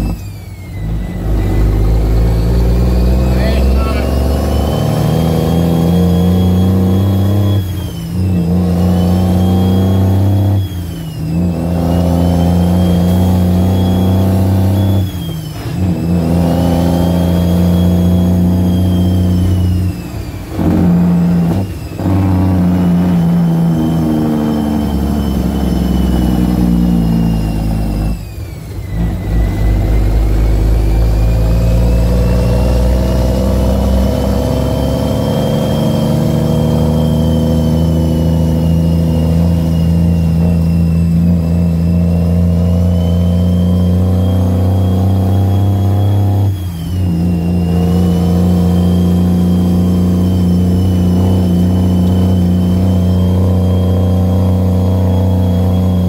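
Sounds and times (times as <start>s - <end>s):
diesel truck engine shifting gears: 0.0s - 56.0s
high whine: 0.0s - 56.0s.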